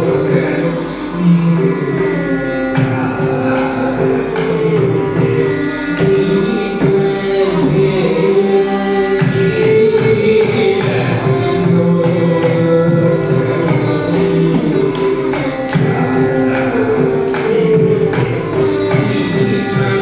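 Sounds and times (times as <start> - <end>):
violin playing gliding melody: 0.0 - 20.0.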